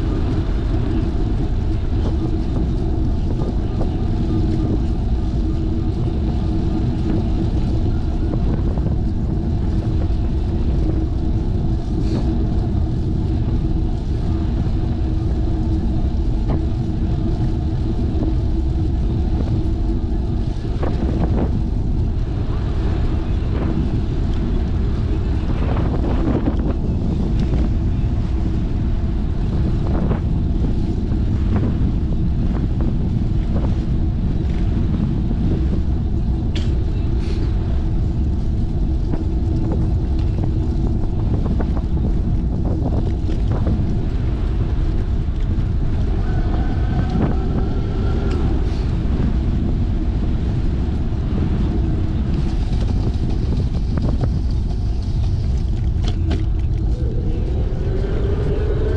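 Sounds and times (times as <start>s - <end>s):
bicycle tyre rumble on asphalt: 0.0s - 58.9s
wind buffeting microphone: 0.0s - 58.9s.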